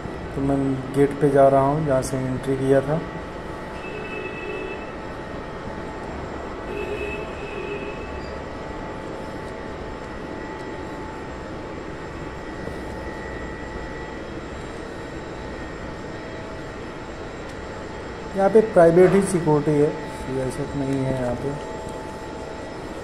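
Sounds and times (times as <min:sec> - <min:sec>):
droning machinery roar: 0:00.0 - 0:23.0
faint whining tones: 0:00.0 - 0:23.0.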